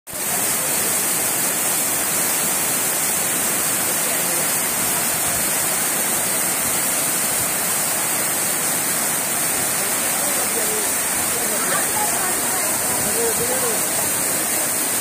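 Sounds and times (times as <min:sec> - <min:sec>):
heavy rain: 0:00.1 - 0:15.0.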